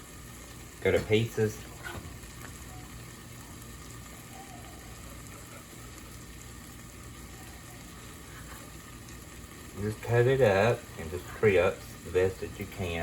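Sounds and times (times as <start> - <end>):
low steady hum: 0.0 - 13.0
onions sizzling in a pan: 0.0 - 13.0.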